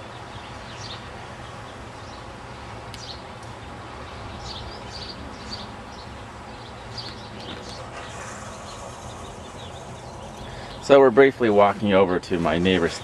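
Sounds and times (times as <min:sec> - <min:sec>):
small songbirds chirping: 0:00.0 - 0:13.0
steady low background hum: 0:00.0 - 0:13.0.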